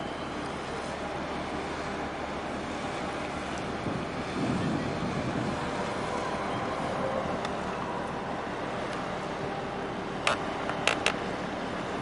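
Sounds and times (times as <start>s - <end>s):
ship engine low rumble: 0.0s - 12.0s
wind: 0.0s - 12.0s.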